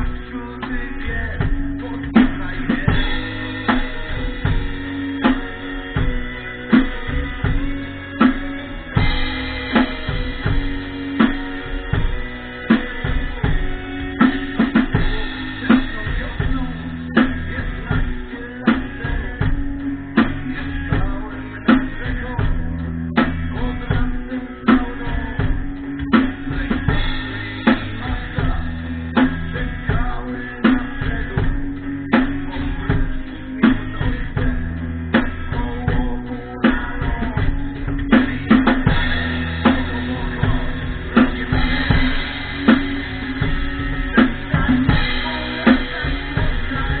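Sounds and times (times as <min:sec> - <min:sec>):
rock music with drums and guitar: 0:00.0 - 0:47.0.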